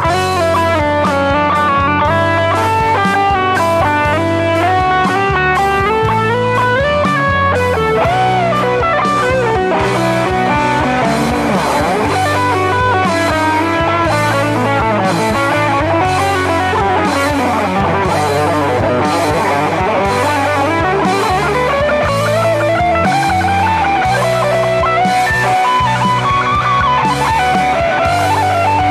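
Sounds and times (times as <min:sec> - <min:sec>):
rock music with electric guitar: 0:00.0 - 0:28.9.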